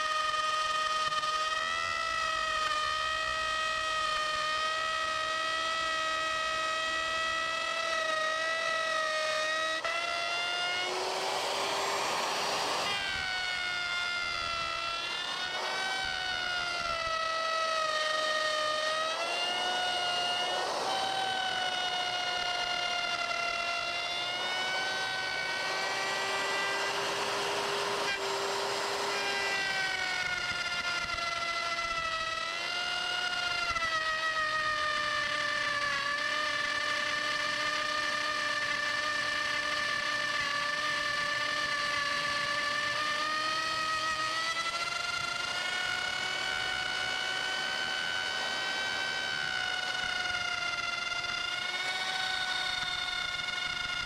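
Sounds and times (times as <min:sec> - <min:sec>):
electric wood router cutting: 0:00.0 - 0:54.0.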